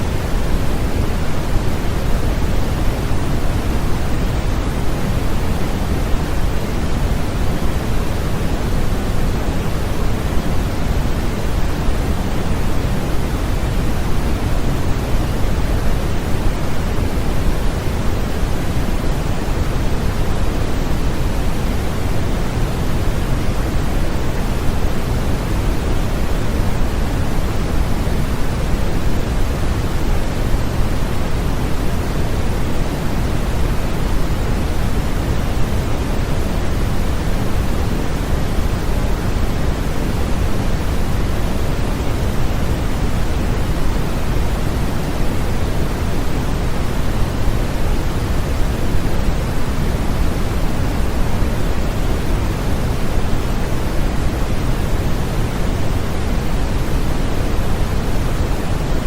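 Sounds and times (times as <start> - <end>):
continuous rushing hiss: 0.0 - 59.0.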